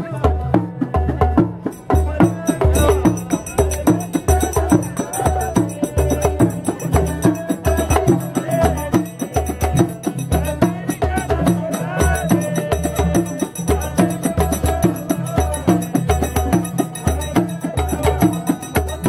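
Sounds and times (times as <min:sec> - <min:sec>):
hand drum beating: 0:00.0 - 0:19.0.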